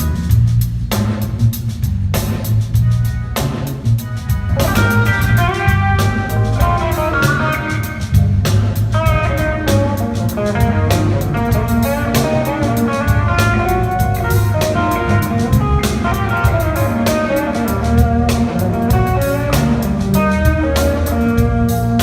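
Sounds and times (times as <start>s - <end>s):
live blues-jazz band: 0.0s - 22.0s
electric guitar lead: 3.0s - 22.0s.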